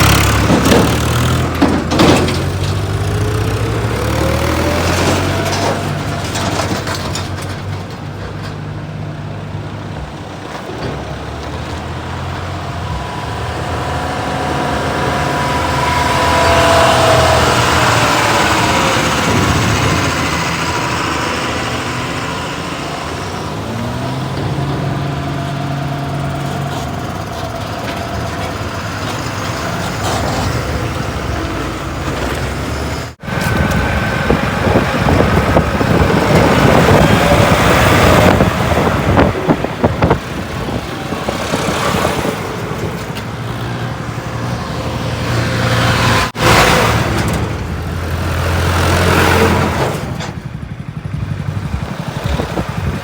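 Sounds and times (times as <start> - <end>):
heavy diesel engines under load: 0.0 - 53.0.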